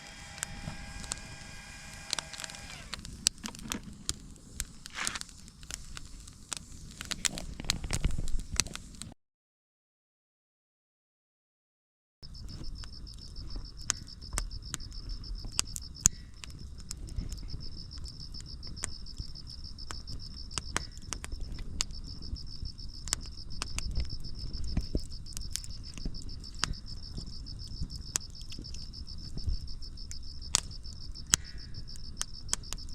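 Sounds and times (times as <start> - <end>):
crickets chirping: 0.0 - 8.8, 12.2 - 32.9
firewood popping and crackling: 0.0 - 9.1, 12.2 - 32.9.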